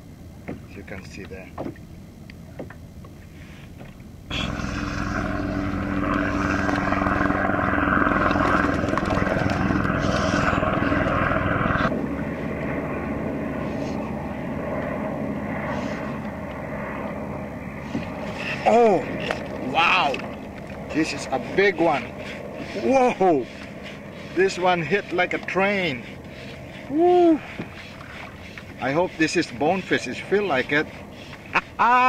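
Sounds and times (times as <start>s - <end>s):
engine drone: 0.0s - 32.0s.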